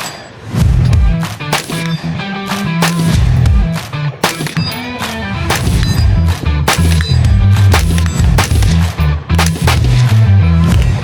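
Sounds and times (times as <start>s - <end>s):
sharp percussive hits: 0.0s - 11.0s
background music with bass line: 0.6s - 11.0s.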